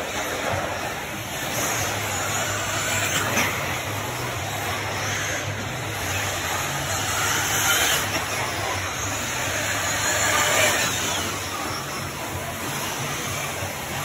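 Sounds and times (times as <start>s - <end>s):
electric motors whining: 0.0s - 14.0s
tyres on dirt track: 0.0s - 14.0s.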